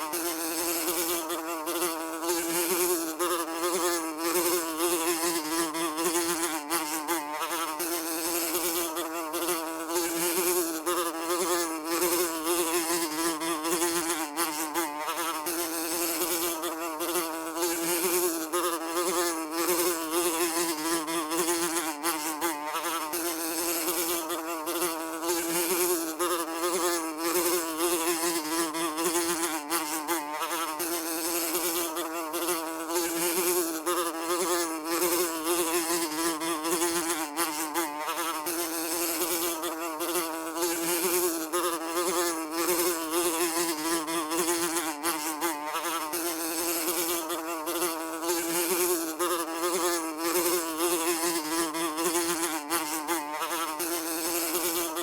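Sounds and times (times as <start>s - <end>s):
housefly buzzing: 0.0s - 55.0s.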